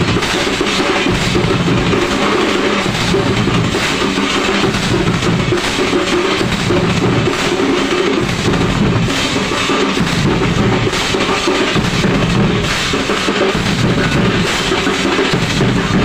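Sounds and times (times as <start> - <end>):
large drums beaten with sticks: 0.0 - 16.0.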